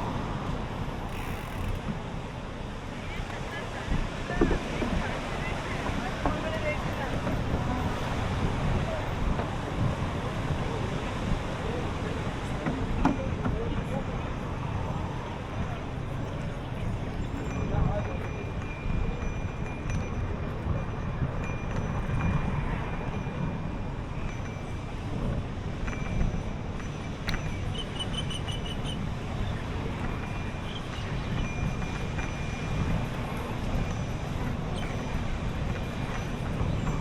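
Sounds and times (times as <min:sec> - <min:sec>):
bicycle road rumble: 0:00.0 - 0:37.0
wind on microphone: 0:00.0 - 0:37.0.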